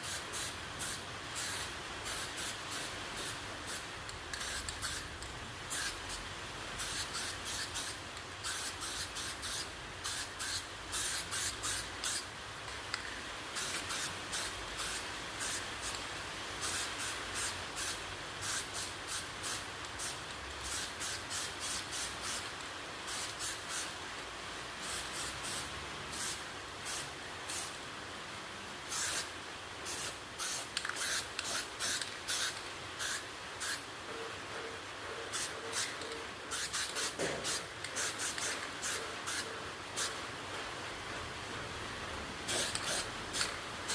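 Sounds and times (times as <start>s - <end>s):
steady hiss: 0.0s - 43.9s.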